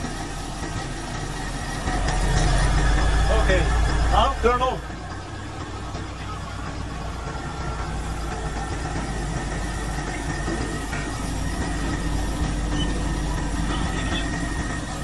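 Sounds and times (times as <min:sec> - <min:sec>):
engine humming at low throttle: 0:00.0 - 0:15.0
faint high whine: 0:00.0 - 0:15.0.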